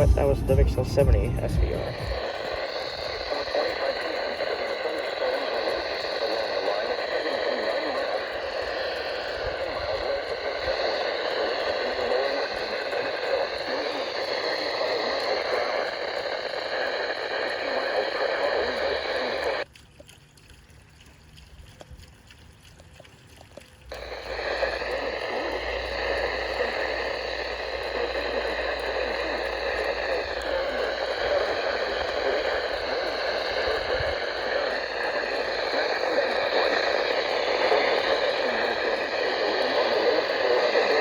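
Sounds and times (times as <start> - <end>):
radio static hiss: 0.0 - 19.7, 23.9 - 41.0.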